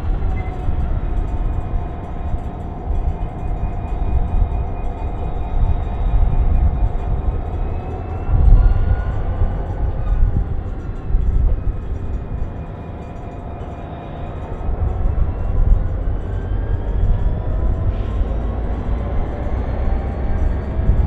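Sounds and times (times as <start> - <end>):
faint whining tones: 0.0 - 21.0
train rumbling on rails: 0.0 - 21.0.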